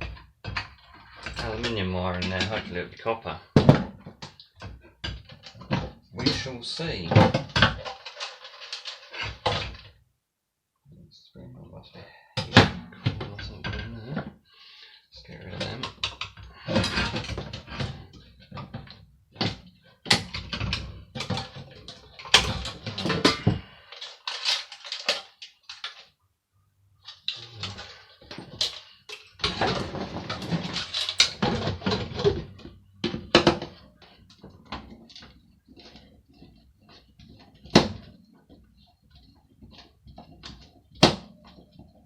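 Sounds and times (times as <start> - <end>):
knocking and rattling of metal parts: 0.0 - 10.0, 15.3 - 26.1, 27.0 - 42.0.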